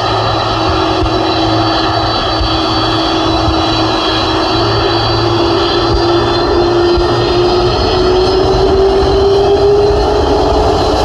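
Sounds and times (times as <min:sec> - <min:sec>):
high engine whine: 0:00.0 - 0:11.0
jet engines roaring: 0:00.0 - 0:11.0
low engine hum: 0:00.0 - 0:11.0.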